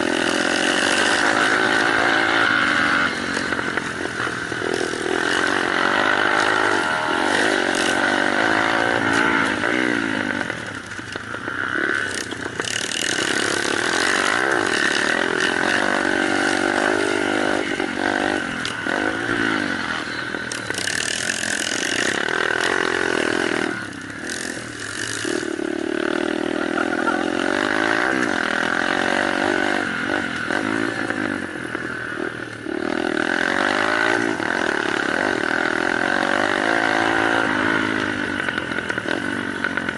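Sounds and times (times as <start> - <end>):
small motorcycle engines revving: 0.0 - 39.9.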